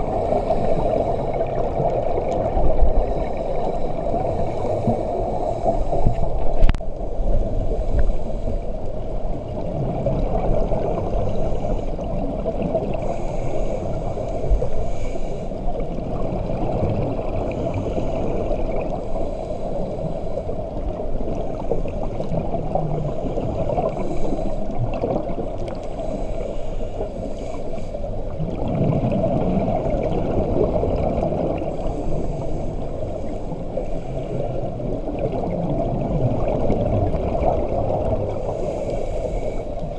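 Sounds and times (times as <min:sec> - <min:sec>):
underwater rush with gurgling: 0:00.0 - 0:39.9.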